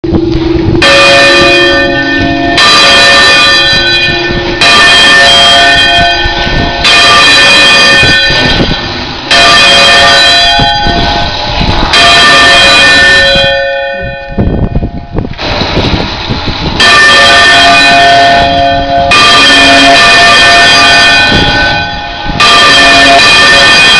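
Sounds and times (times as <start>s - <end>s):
church bells ringing: 0.2s - 15.2s, 16.8s - 23.9s.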